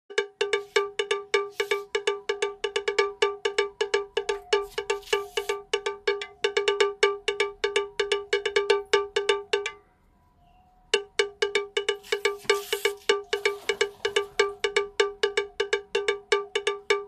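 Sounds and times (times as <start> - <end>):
rapid metallic cowbell strikes: 0.1 - 9.8, 10.9 - 17.0.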